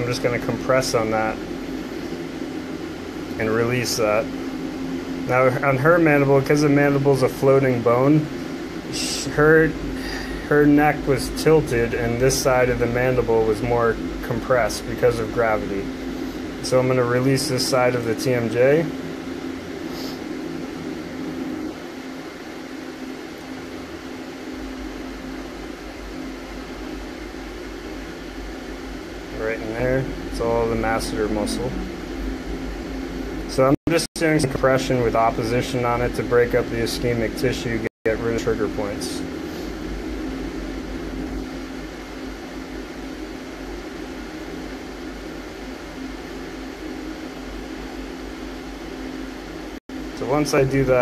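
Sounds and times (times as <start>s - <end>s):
mechanical room hum: 0.0s - 51.0s.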